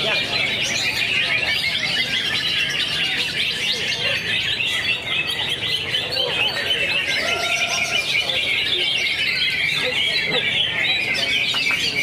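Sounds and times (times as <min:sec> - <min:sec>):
bird singing high chirps: 0:00.0 - 0:12.0.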